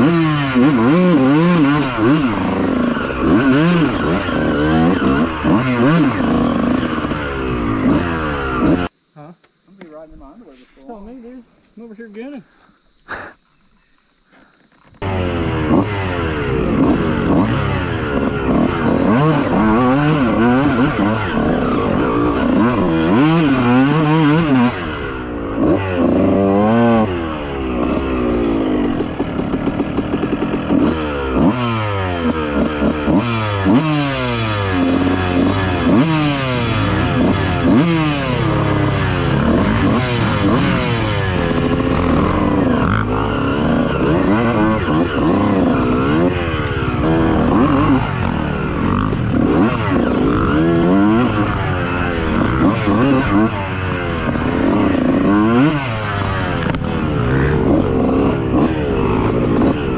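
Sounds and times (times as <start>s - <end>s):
dirt bike engine revving: 0.0s - 9.0s, 14.2s - 59.9s.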